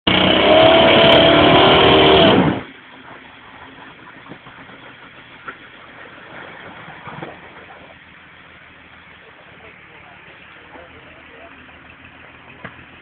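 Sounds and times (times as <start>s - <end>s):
buggy engine running hard: 0.0s - 13.0s.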